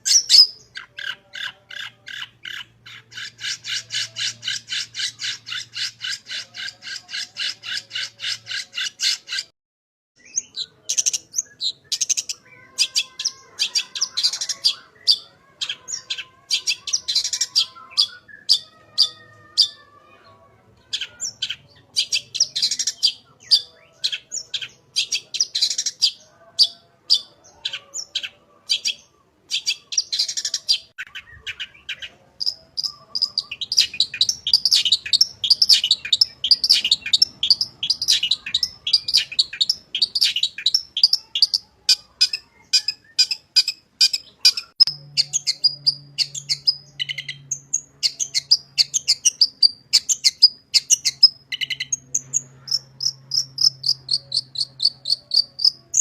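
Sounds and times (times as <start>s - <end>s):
shrike singing chirps and trills: 0.0s - 9.5s, 10.2s - 20.2s, 20.8s - 56.0s.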